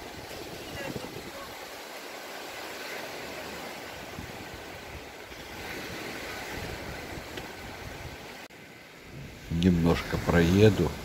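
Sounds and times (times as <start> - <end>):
waves washing onto sand: 0.0 - 11.0
wind rumbling on microphone: 0.0 - 11.0.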